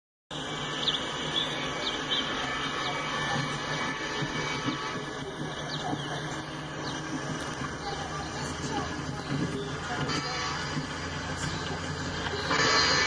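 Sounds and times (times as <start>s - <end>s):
birds chirping: 0.3s - 13.0s
diesel locomotive drone: 0.3s - 13.0s.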